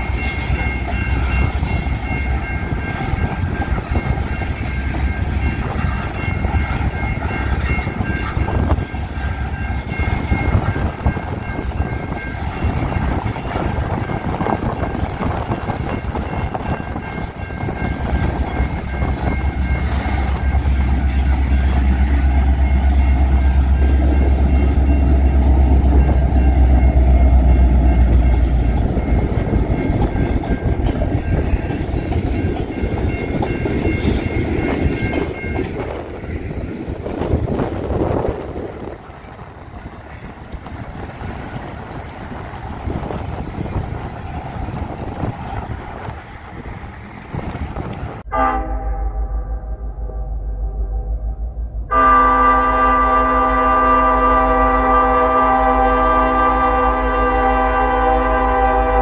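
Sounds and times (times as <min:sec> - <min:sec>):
crossing bell dinging: 0:00.0 - 0:59.0
diesel locomotive engine drone: 0:00.0 - 0:59.0.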